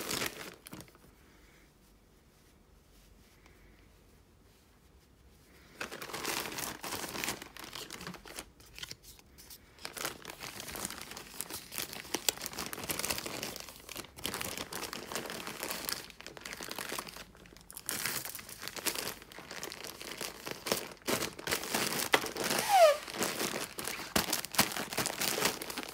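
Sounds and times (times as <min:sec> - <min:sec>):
plastic bags crinkling: 0:00.0 - 0:01.1, 0:05.7 - 0:25.9.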